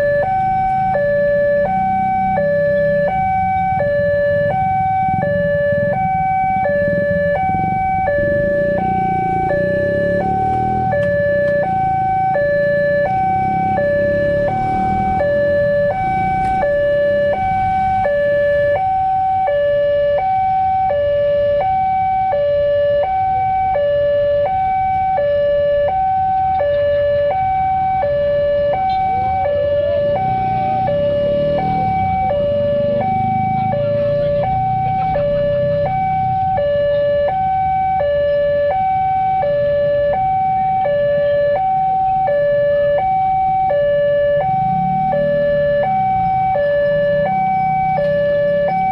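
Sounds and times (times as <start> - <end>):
two-tone level crossing alarm: 0.0 - 48.9.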